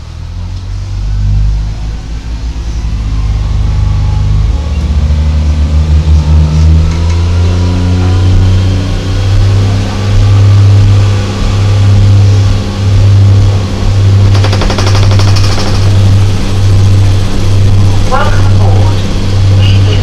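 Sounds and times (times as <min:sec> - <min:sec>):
railcar diesel engine: 0:00.0 - 0:20.0.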